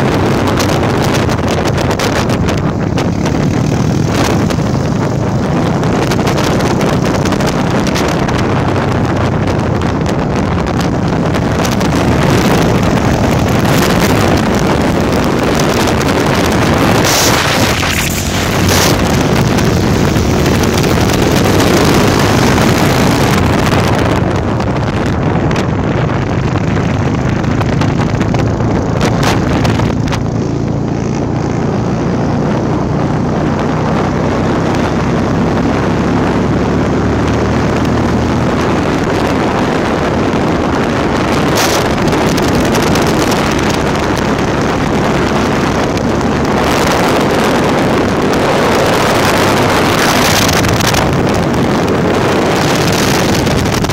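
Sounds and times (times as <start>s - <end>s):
motorcycle engine running: 0.0s - 53.9s
wind buffeting microphone: 0.0s - 53.9s.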